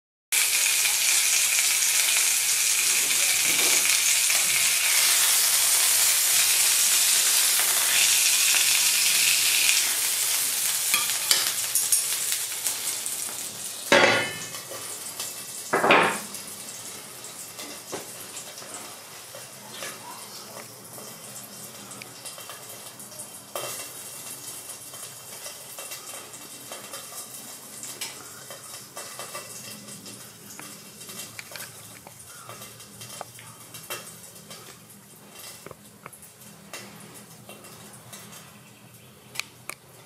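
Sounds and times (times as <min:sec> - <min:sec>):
meat sizzling in a grill pan: 0:00.4 - 0:35.6.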